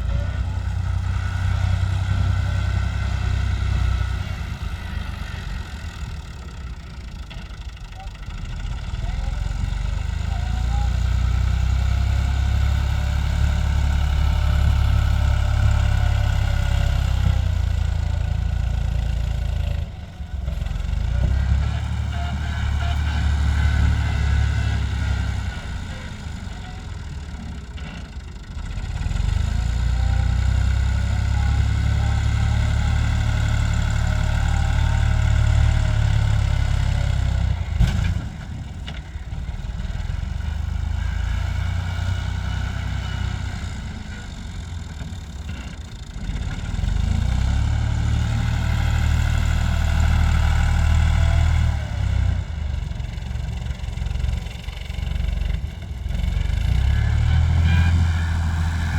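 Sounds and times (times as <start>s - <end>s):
tractor diesel engine under load: 0.0s - 58.9s.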